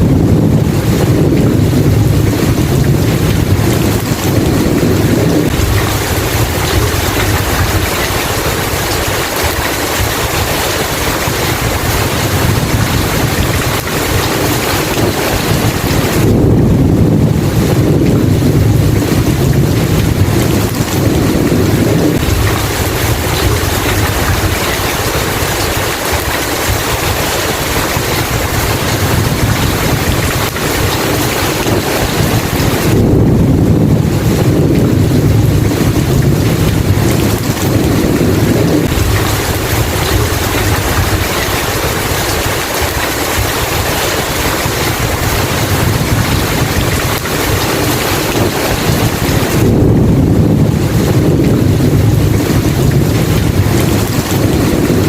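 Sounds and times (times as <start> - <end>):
heavy rain: 0.0 - 55.0
thunder rumble: 0.0 - 55.0.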